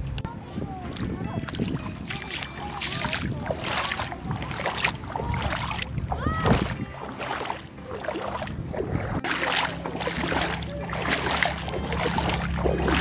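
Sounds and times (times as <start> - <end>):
bare feet splashing in seawater: 0.8 - 13.0.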